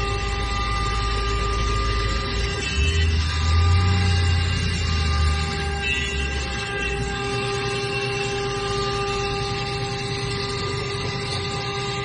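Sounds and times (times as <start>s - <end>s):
router spindle high whine: 0.0s - 12.0s.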